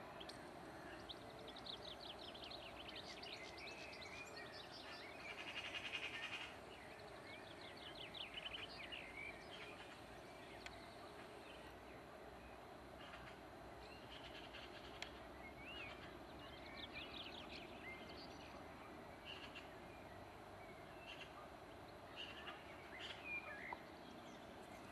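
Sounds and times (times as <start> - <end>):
faint background noise: 0.0 - 24.9
small birds chirping: 0.2 - 24.9.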